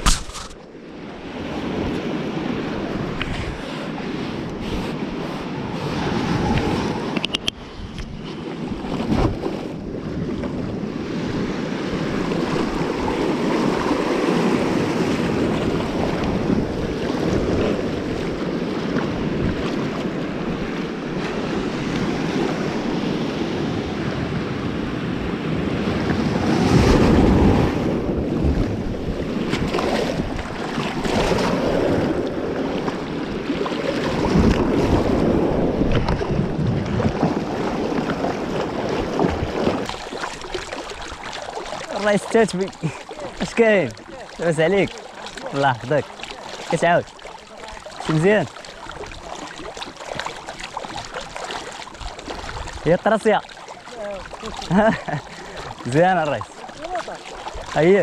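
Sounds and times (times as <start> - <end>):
sea waves splashing: 0.0 - 58.0
wind rumbling on microphone: 0.0 - 58.0.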